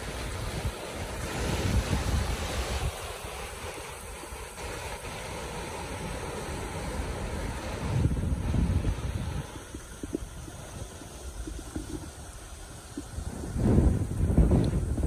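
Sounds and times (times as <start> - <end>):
surf washing over rocks: 0.0 - 15.0
wind on microphone: 0.0 - 15.0.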